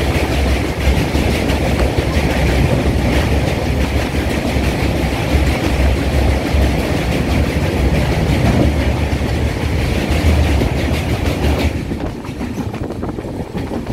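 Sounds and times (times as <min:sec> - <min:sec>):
train wheels clattering on bridge: 0:00.0 - 0:13.9.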